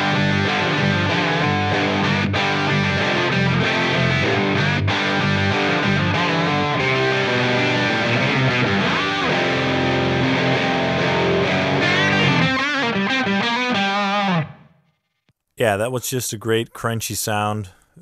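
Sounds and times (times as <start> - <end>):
distorted electric guitar: 0.0 - 15.3.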